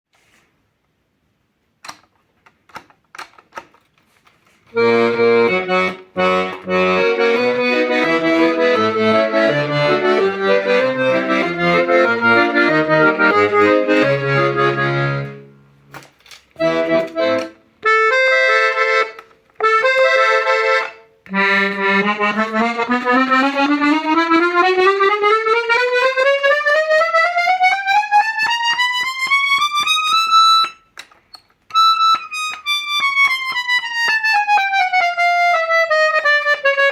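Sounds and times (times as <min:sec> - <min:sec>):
piano accordion playing: 0:04.7 - 0:15.8, 0:16.6 - 0:30.8, 0:31.7 - 0:36.9.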